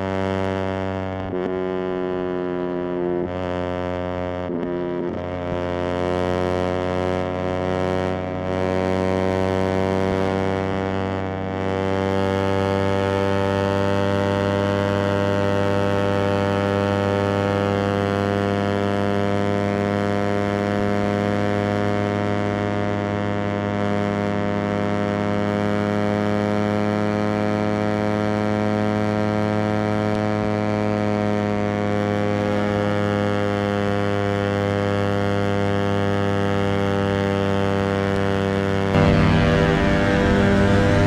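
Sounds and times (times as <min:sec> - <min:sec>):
motorcycle engine at high revs: 0:00.0 - 0:41.0.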